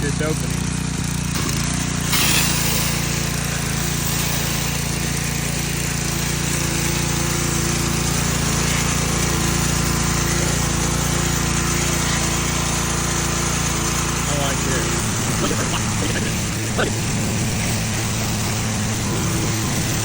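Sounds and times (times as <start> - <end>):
pressure washer spraying: 0.4 - 20.0.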